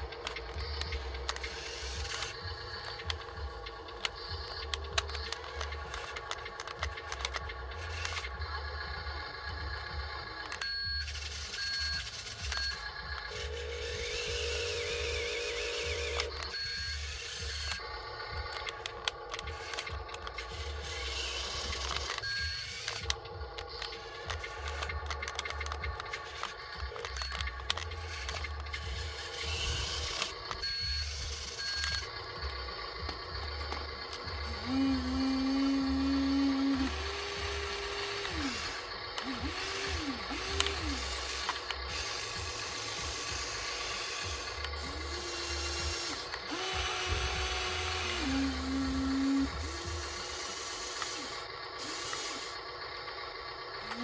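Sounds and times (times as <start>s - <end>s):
sharp plastic clicks: 0.0s - 54.0s
small electric motors whining: 0.0s - 54.0s.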